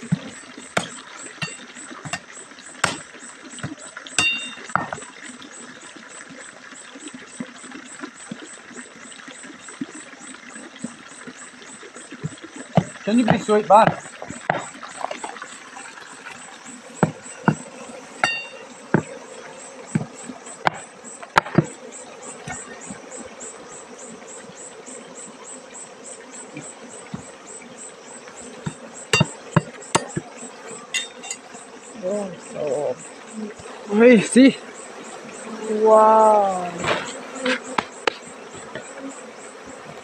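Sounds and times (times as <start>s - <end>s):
bees buzzing: 0.0s - 6.3s, 8.7s - 40.0s.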